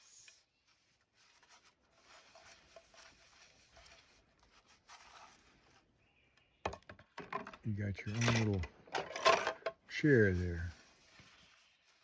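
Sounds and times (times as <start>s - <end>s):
rustling and scraping of objects: 0.0s - 12.0s.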